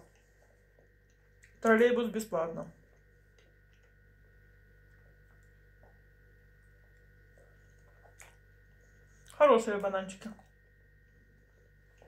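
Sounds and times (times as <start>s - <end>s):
faint high whine: 0.0s - 12.0s
low hum: 0.0s - 12.0s.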